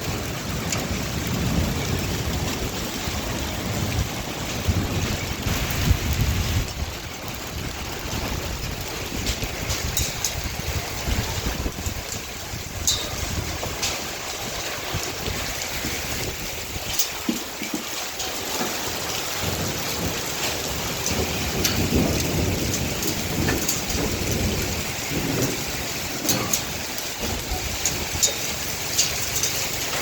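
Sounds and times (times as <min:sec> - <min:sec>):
hailstones ticking on hard surfaces: 0:00.0 - 0:30.0
rain and hail falling: 0:00.0 - 0:30.0.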